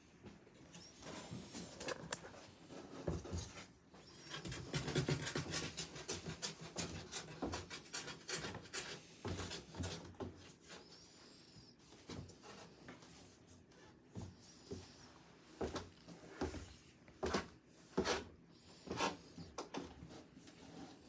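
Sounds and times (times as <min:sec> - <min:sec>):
cats scratching cardboard box: 0:00.8 - 0:21.0.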